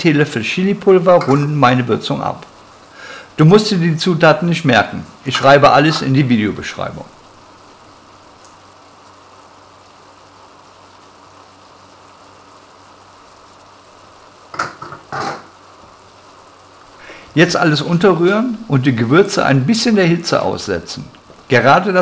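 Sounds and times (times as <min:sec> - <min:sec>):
sauce sizzling and bubbling: 0:00.0 - 0:22.0.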